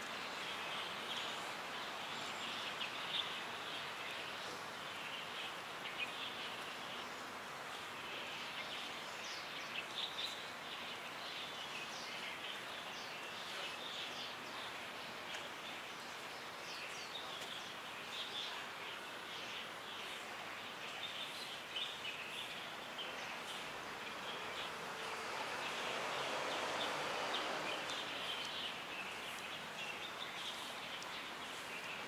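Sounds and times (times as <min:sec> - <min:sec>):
outdoor background hiss: 0:00.0 - 0:32.0
small birds chirping: 0:00.0 - 0:32.0.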